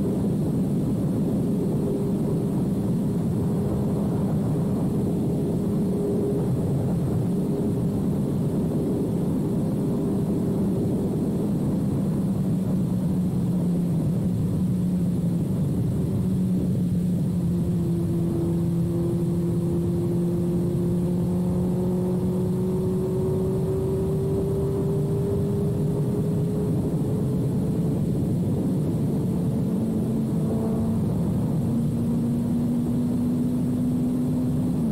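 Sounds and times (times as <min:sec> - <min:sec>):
motorcycle engine cruising: 0:00.0 - 0:34.9
wind rush: 0:00.0 - 0:34.9.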